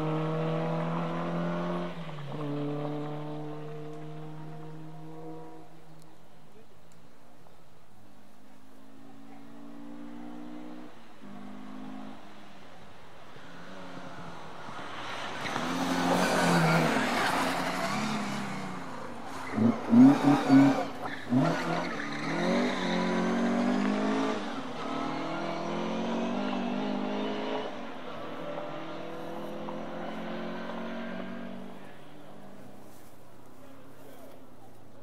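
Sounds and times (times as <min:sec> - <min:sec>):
rally car engines revving: 0:00.0 - 0:06.1, 0:08.7 - 0:12.6, 0:13.3 - 0:34.5.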